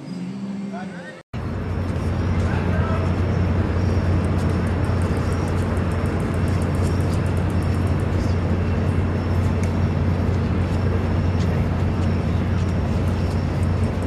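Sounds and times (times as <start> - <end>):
low hum and rumble: 1.4 - 14.0.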